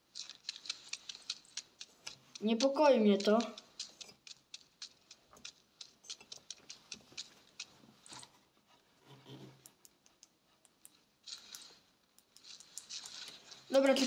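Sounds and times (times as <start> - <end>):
computer mouse clicking: 0.1 - 8.3, 9.6 - 13.7.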